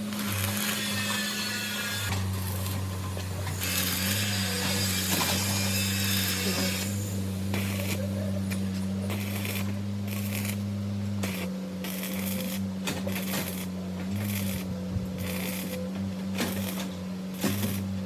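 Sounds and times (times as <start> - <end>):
tool hissing on material: 0.0 - 2.1, 3.6 - 10.6, 11.2 - 18.0
power tool humming: 0.0 - 18.0.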